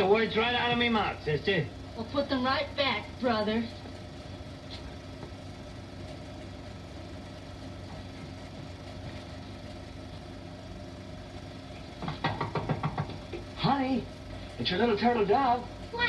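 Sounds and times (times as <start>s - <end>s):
film soundtrack hum and hiss: 0.0s - 16.0s.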